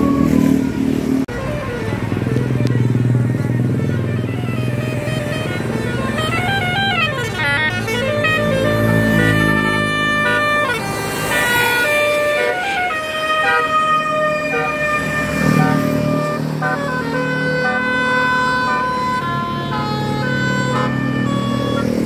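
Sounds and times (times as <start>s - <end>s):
bus engine running: 0.0s - 22.0s
multi-tone bus air horn melody: 0.0s - 22.0s.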